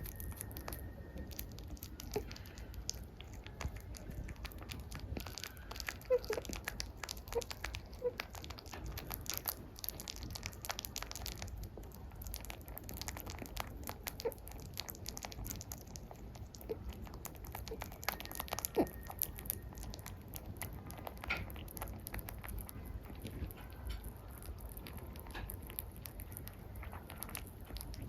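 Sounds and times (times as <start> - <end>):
rabbit chewing: 0.0 - 28.0.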